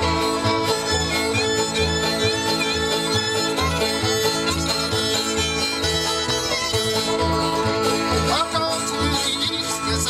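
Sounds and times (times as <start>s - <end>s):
bluegrass band playing: 0.0s - 10.0s
upright bass notes: 0.0s - 10.0s.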